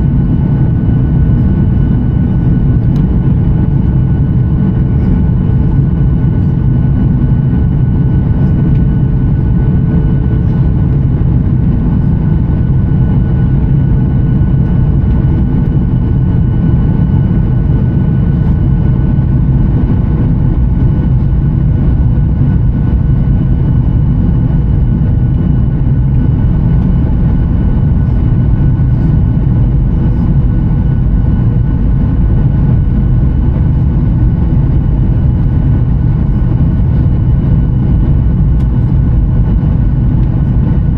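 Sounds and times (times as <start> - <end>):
airplane engine drone in cabin: 0.0 - 40.9.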